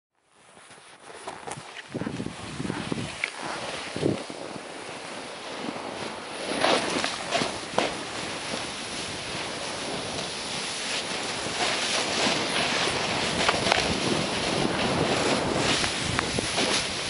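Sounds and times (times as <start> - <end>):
skis sliding through powder snow: 0.3 - 17.0
short scrapes on snow: 0.4 - 17.0
wind on microphone: 1.0 - 17.0.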